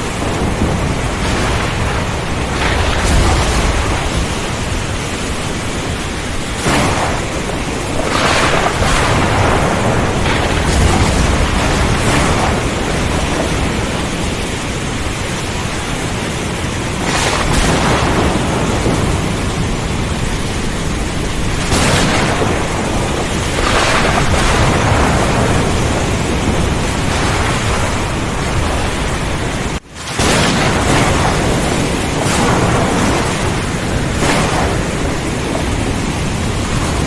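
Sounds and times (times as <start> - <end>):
heavy rain: 0.0 - 37.0
thunder rumbling: 0.0 - 37.0.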